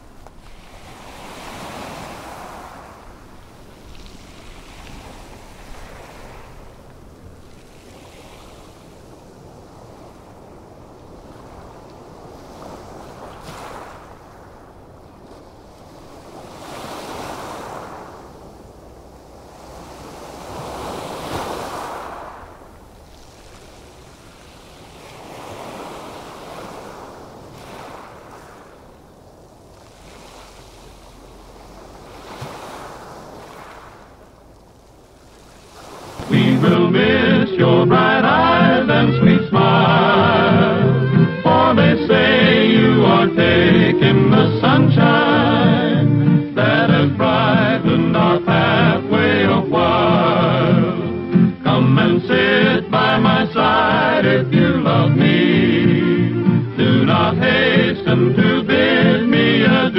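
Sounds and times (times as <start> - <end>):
ocean waves: 0.0 - 59.9.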